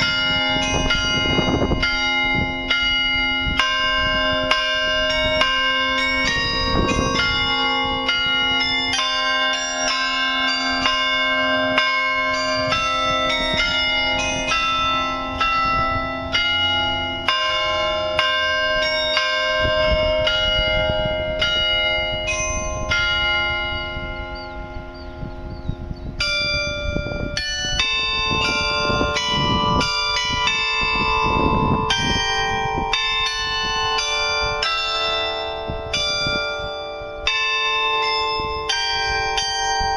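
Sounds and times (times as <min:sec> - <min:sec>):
carillon bells playing melody: 0:00.0 - 0:39.9.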